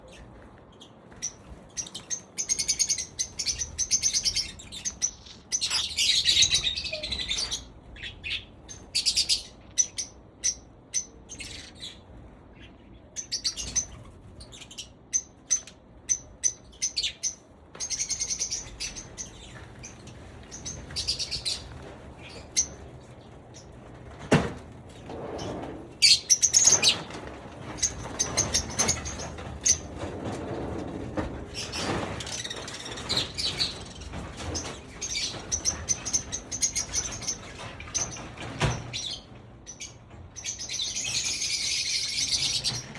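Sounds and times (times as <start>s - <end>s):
pet birds chirping: 0.0s - 24.0s, 25.5s - 30.6s, 31.5s - 42.9s.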